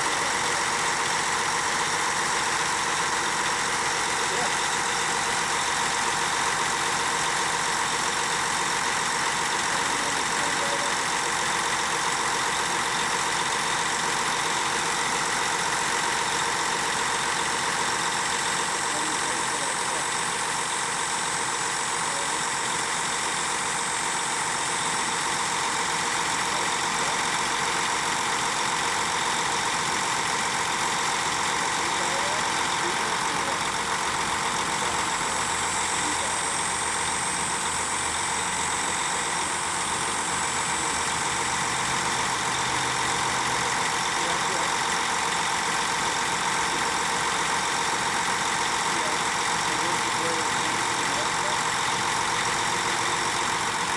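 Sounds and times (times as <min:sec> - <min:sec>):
diesel engine running steadily: 0:00.0 - 0:53.9.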